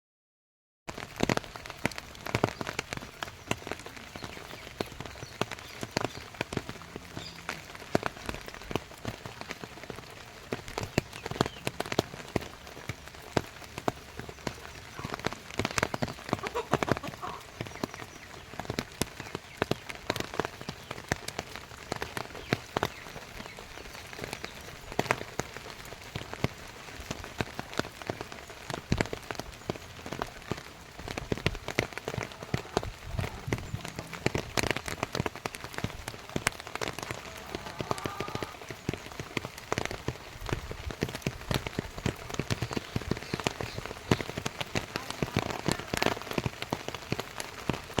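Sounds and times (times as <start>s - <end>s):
rain falling: 0.9s - 48.0s.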